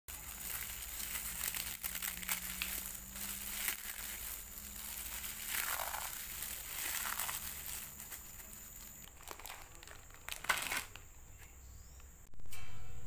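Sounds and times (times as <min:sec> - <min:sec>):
dry noodles crushed and crackling: 0:00.1 - 0:11.1.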